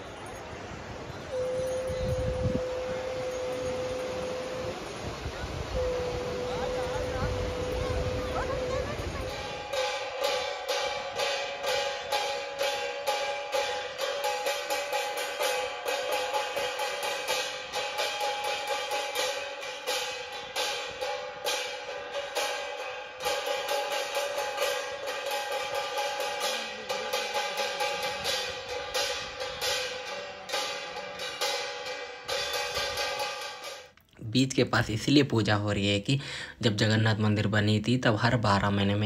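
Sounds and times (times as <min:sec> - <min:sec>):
bells struck: 0:00.0 - 0:34.0
steady held tones: 0:01.2 - 0:34.2
hand cymbals: 0:01.3 - 0:34.0
drumming: 0:01.4 - 0:34.0.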